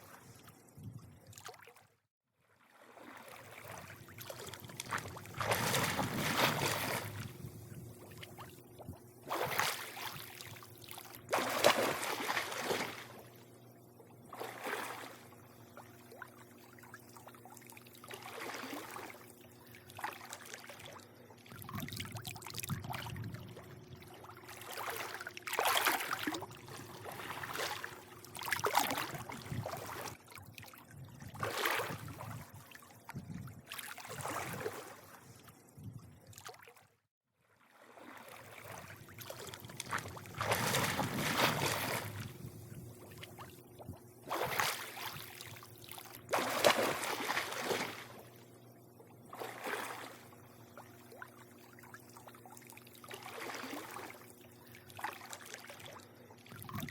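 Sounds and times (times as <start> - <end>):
pool water lapping and sloshing: 0.0 - 56.9
faint steady hum: 2.8 - 36.6, 37.7 - 56.9.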